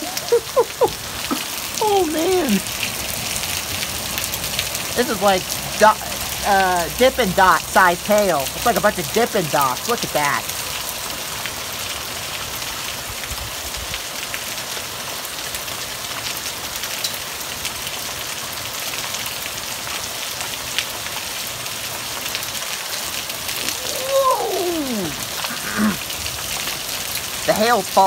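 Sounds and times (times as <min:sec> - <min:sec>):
hail hissing and ticking: 0:00.0 - 0:18.2, 0:19.8 - 0:28.0.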